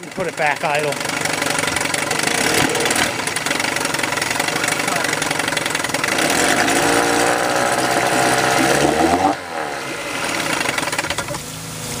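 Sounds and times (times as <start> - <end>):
outboard motor running in water: 0.0 - 12.0.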